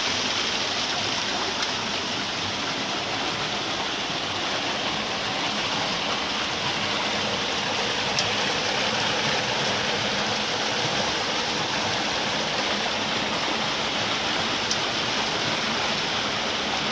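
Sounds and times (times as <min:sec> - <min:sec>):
water rushing down a channel: 0:00.0 - 0:16.9
water wheel paddles splashing: 0:00.0 - 0:16.9.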